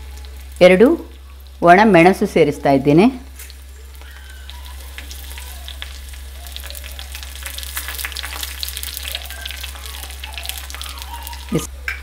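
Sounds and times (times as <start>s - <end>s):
oil sizzling with pops and crackles: 0.0s - 12.0s.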